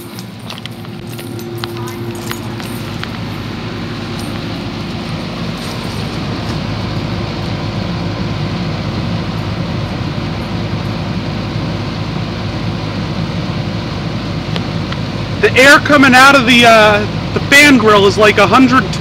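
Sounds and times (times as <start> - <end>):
air conditioner unit hum: 0.0 - 19.0
condenser fan blowing air: 0.0 - 19.0.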